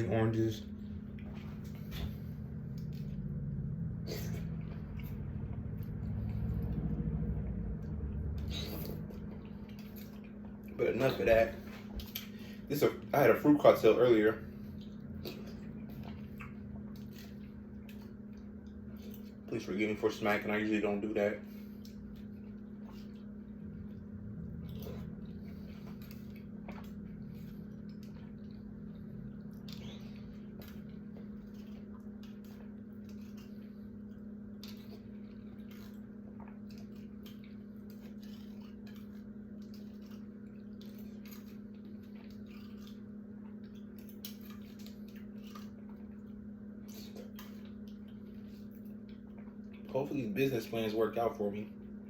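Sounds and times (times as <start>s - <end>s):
low steady hum: 0.0s - 52.0s
person chewing and lip-smacking: 0.9s - 13.1s, 14.6s - 19.5s, 21.7s - 50.0s.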